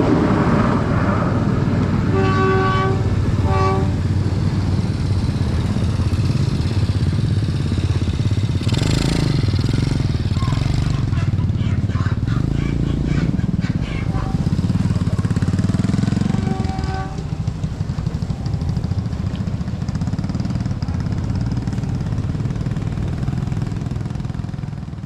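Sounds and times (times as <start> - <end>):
engine rumbling: 0.0 - 25.0.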